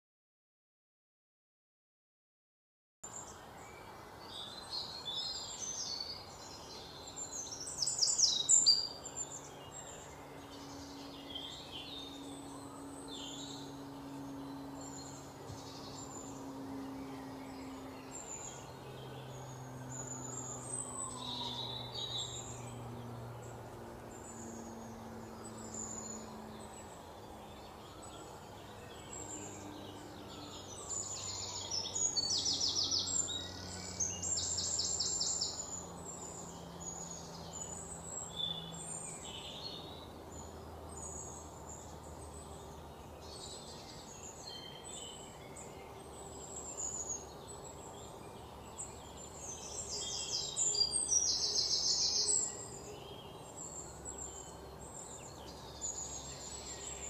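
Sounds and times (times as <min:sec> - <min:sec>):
birds chirping: 0:03.1 - 0:57.0.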